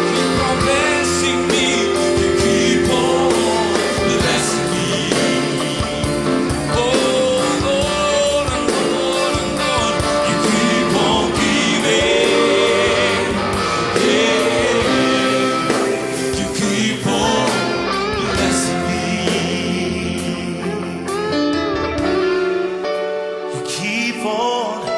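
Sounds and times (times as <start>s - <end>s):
person singing: 0.0s - 21.6s, 23.4s - 24.9s
band playing worship music: 0.0s - 24.9s.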